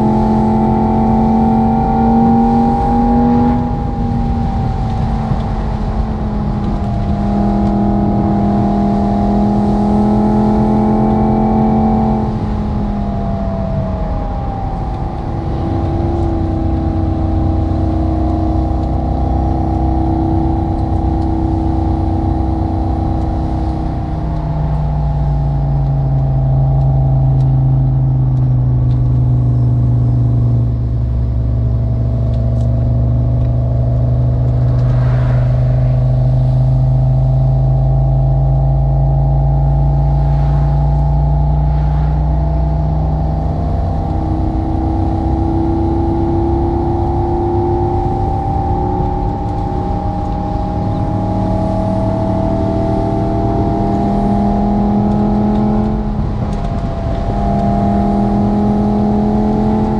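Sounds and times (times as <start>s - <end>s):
simulated sports car engine: 0.0s - 59.9s.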